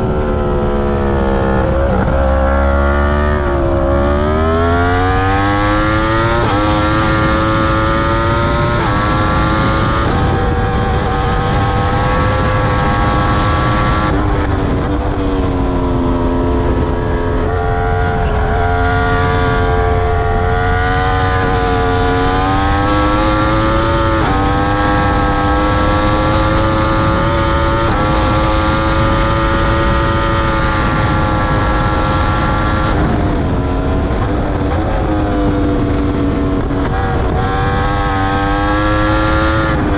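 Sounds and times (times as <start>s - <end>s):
motorcycle engine shifting gears: 0.0s - 39.9s
wind rushing: 0.0s - 39.9s.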